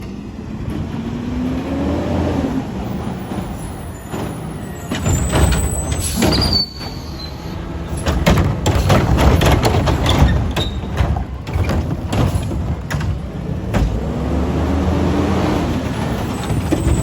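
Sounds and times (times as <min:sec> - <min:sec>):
loud clanking and banging: 0:03.3 - 0:17.0.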